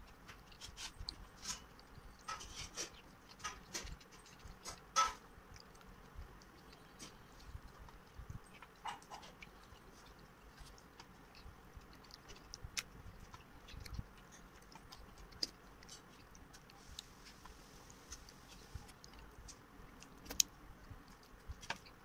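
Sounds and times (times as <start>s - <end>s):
faint chewing: 0.0s - 22.0s.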